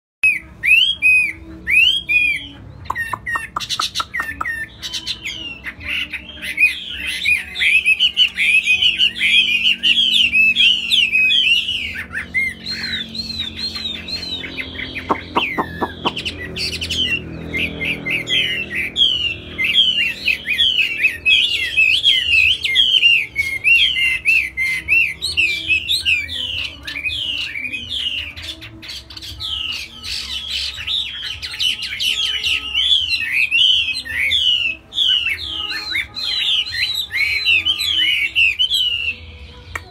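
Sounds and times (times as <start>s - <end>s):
bird singing whistled phrases: 0.2s - 39.9s.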